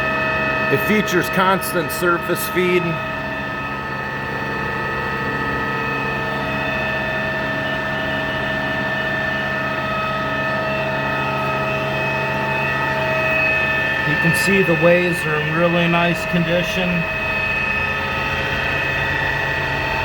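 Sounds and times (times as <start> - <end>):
lathe machine whine: 0.0 - 20.0.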